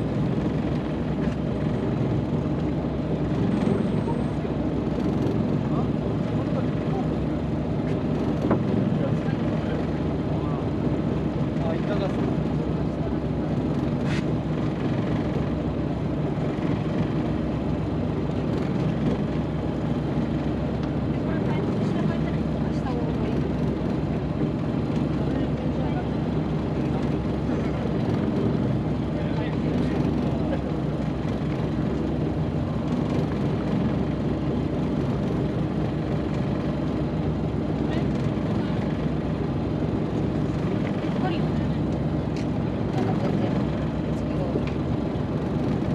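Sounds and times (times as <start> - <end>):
boat engine droning: 0.0 - 45.9.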